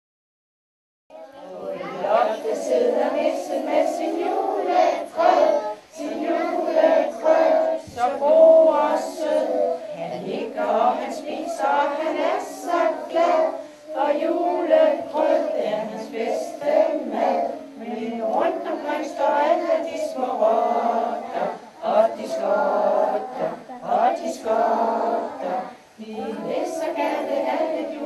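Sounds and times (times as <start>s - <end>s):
children singing together: 1.1s - 28.0s.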